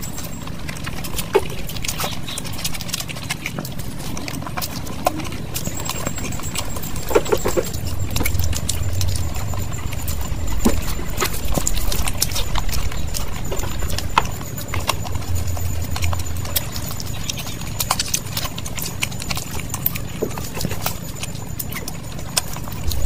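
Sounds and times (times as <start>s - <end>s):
low steady rumble: 0.0s - 23.0s
wet chewing and mouth clicks: 0.0s - 23.0s.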